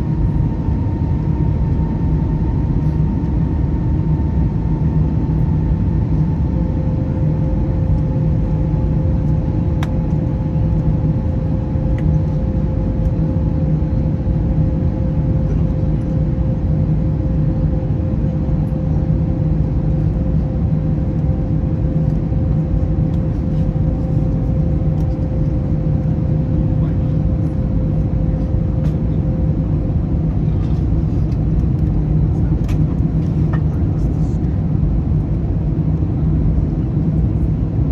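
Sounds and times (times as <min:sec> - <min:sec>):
aircraft cabin engine rumble: 0:00.0 - 0:37.9.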